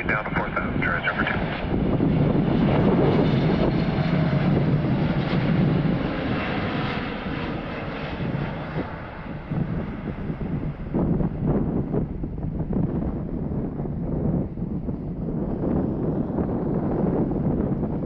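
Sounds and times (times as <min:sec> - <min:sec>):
jet engines rumbling and hissing: 0:00.0 - 0:18.0.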